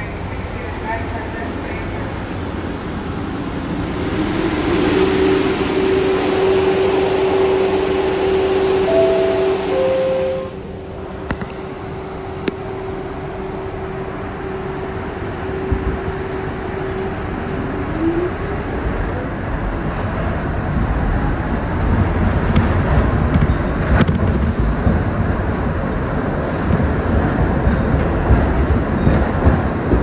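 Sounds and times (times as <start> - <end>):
subway train whine: 0.0 - 30.0
wheels rumbling on track: 0.0 - 30.0.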